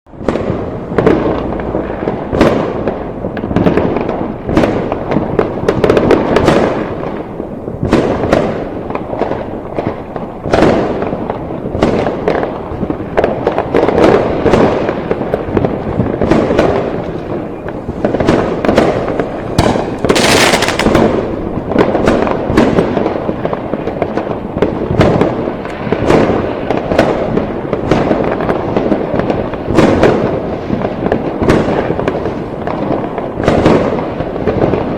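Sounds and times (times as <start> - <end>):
fireworks bangs and crackles: 0.1 - 34.9.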